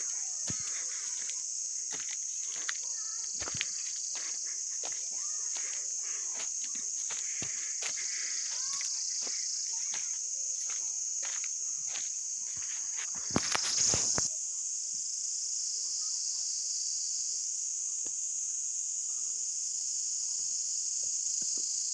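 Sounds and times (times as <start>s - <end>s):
insects buzzing: 0.0s - 21.9s.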